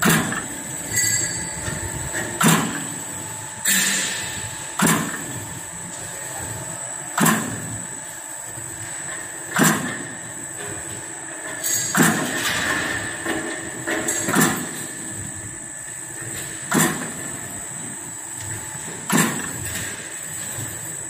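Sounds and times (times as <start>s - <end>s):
production line machinery running: 0.0s - 21.0s.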